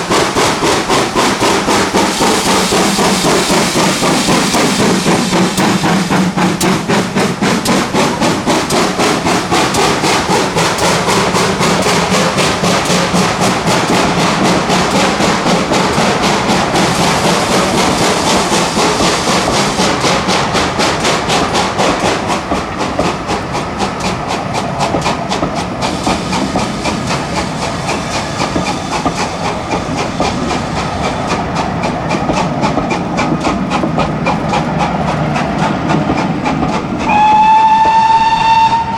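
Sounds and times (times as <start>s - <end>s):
steam train running: 0.0s - 38.9s.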